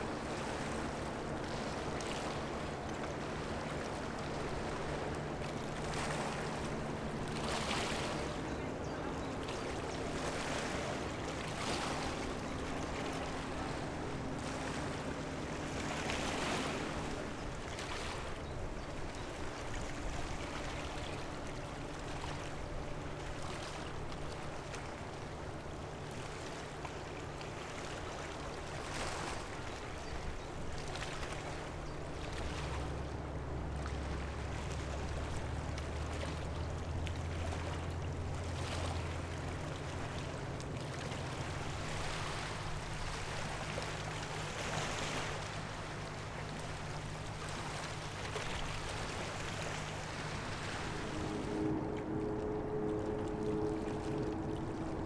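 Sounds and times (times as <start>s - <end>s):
deeper engine drone: 0.0s - 55.0s
river water washing on shore: 0.0s - 55.0s
ship engines droning: 0.0s - 55.0s.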